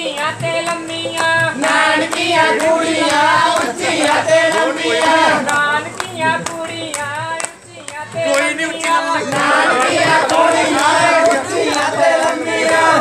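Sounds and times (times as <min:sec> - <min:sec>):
hand clapping: 0:00.0 - 0:13.0
women singing folk song: 0:00.0 - 0:13.0.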